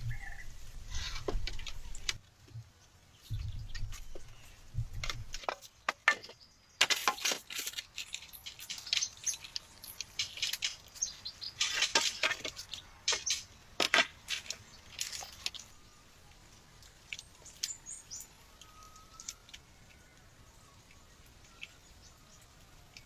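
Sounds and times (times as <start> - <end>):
twigs and leaves crackling: 0.0 - 23.0.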